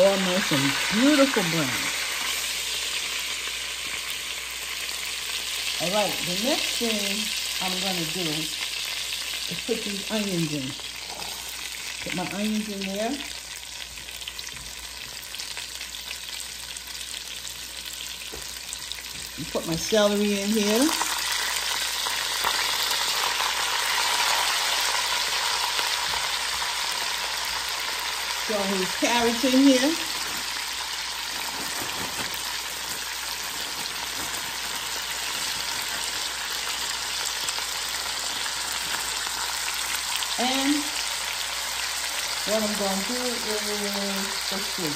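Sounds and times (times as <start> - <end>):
onions sizzling in hot fat: 0.0 - 44.9.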